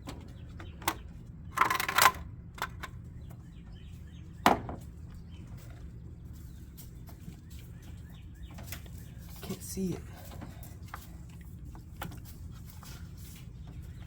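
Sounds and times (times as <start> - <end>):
knocks and clatter of engine parts: 0.0 - 14.0.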